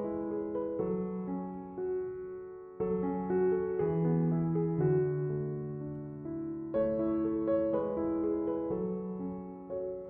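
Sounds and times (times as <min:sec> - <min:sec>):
piano chords: 0:00.0 - 0:10.0.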